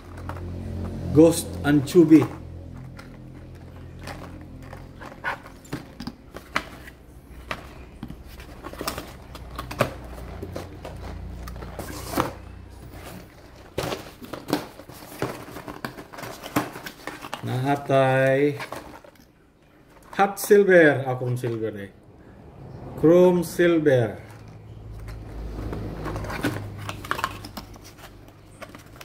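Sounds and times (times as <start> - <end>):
plastic packaging crinkling: 1.8 - 20.4, 24.4 - 29.0.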